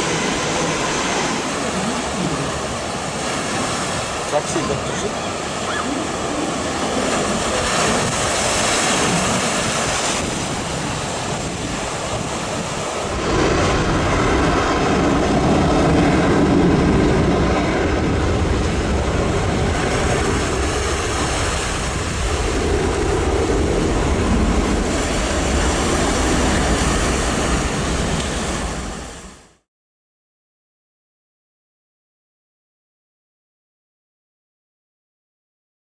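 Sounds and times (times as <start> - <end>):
wind buffeting microphone: 0.0 - 29.4
jet engines at high thrust: 0.0 - 29.6.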